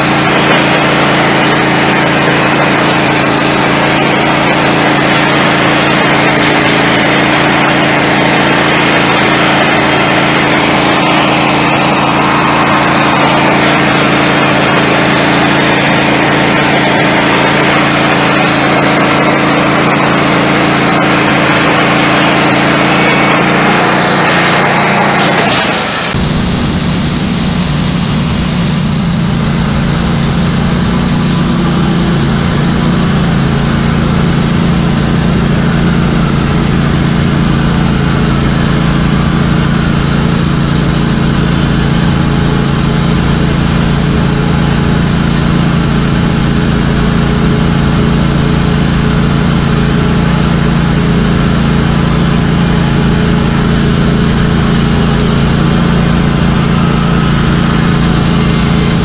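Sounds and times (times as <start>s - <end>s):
band saw cutting wood: 0.0s - 59.0s
gas engine running: 0.0s - 59.0s.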